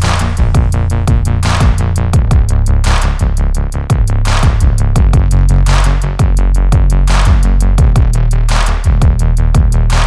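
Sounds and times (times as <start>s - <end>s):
electronic hip-hop beat: 0.0s - 10.0s.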